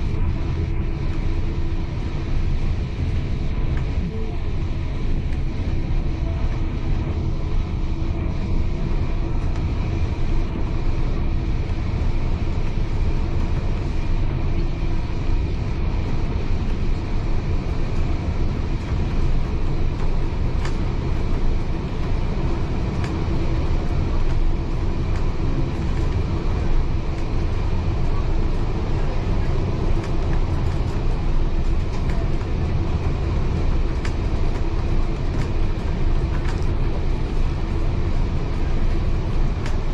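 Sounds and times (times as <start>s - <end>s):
railway carriage rumble: 0.0s - 39.9s.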